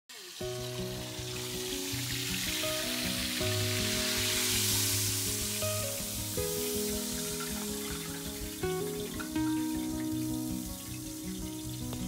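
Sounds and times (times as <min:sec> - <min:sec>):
fat sizzling in an oven: 0:00.1 - 0:12.0
background music of held chords: 0:00.4 - 0:12.0.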